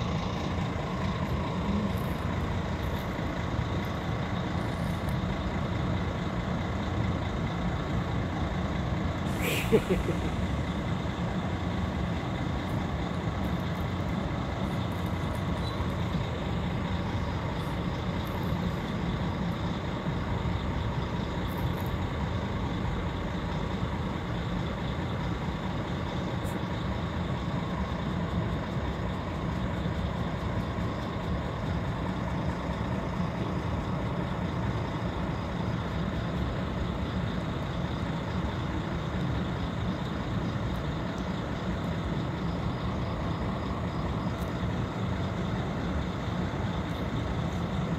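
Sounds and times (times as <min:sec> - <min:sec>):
low rumbling background noise: 0:00.0 - 0:47.9.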